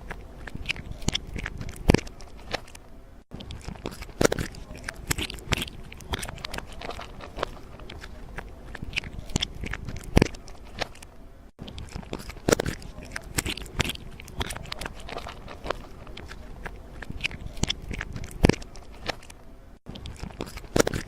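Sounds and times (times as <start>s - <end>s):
crunching and crackling: 0.0s - 21.0s.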